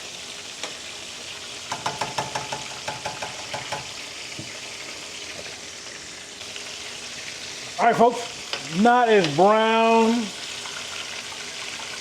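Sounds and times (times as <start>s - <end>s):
wings sizzling in hot oil: 0.0s - 12.0s.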